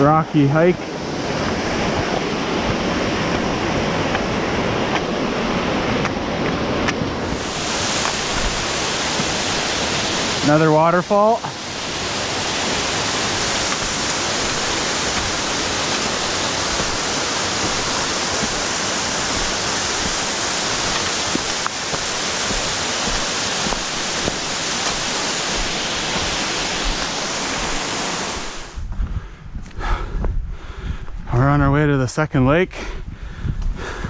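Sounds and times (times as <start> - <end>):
waterfall rushing over rocks: 0.0 - 28.8.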